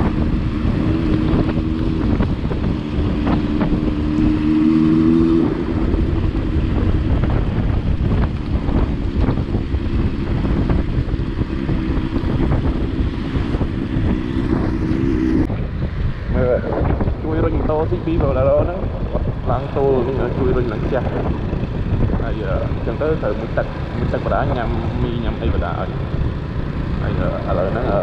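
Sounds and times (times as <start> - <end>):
low hum: 0.0 - 28.0
wind buffeting microphone: 0.0 - 28.0.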